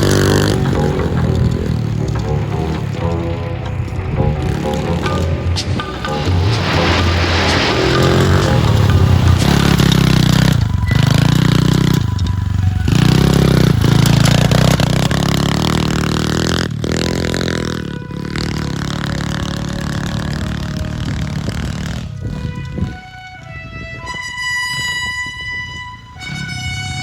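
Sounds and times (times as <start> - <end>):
pit bike engine revving: 0.0 - 22.4.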